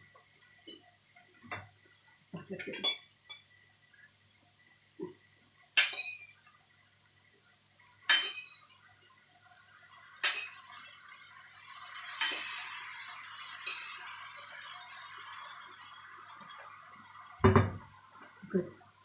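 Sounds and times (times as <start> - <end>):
steady hiss: 2.9 - 19.0.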